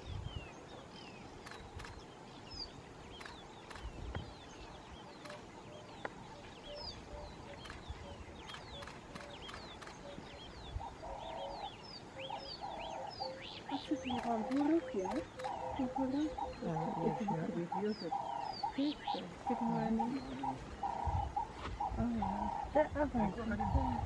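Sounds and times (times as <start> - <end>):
faint open-air background noise: 0.0 - 24.0
birds whistling: 2.6 - 24.0.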